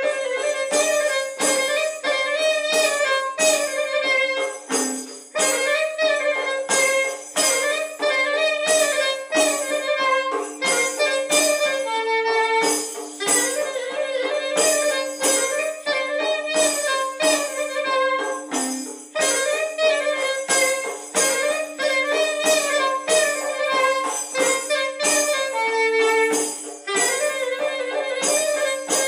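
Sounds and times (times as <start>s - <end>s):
clarinet playing folk melody: 0.0s - 29.0s
jingling frame drum beat: 0.1s - 29.0s.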